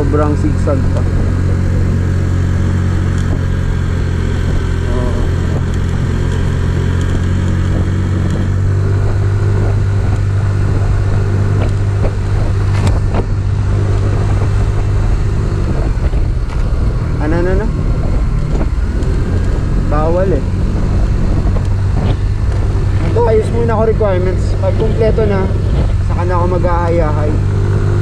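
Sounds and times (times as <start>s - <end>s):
road and wind noise: 0.0s - 28.0s
scooter engine running: 0.0s - 28.0s.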